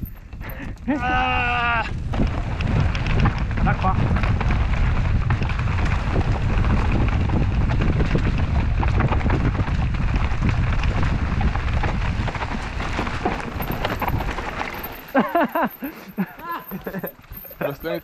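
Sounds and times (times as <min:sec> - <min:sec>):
wind rumble on microphone: 0:00.0 - 0:15.0
bike rattling and clicking: 0:00.0 - 0:18.0
tyres rolling on dirt: 0:00.0 - 0:18.0.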